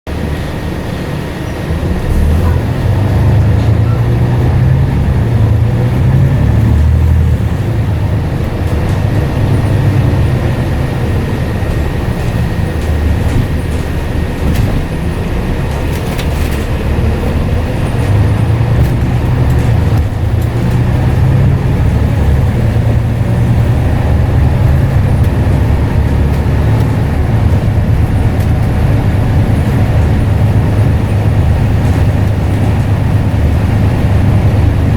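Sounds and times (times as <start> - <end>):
bus diesel engine rumbling: 0.1 - 34.9.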